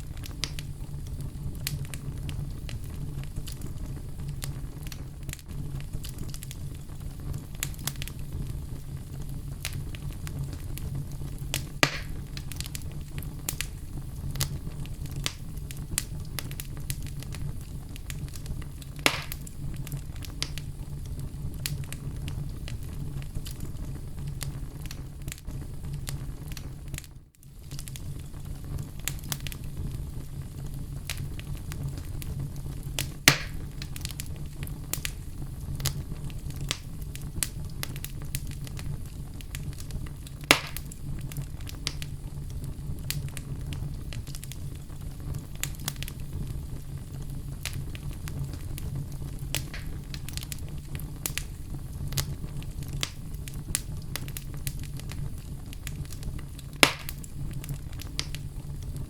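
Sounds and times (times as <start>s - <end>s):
fire burning in a fireplace: 0.0s - 59.0s
fire crackling: 0.0s - 59.0s
loud pops from fire: 0.0s - 59.0s.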